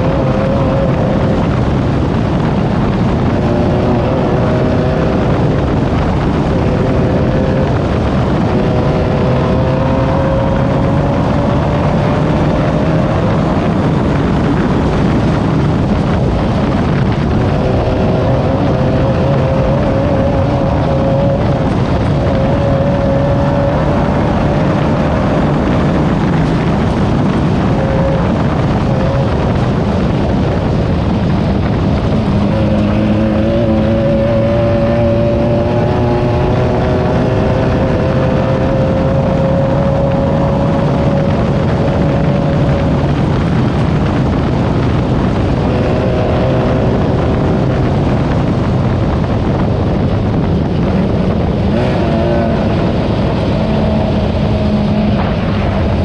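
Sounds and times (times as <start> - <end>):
buggy engine running hard: 0.0 - 56.0
rough terrain noise: 0.0 - 56.0
wind noise: 0.0 - 56.0.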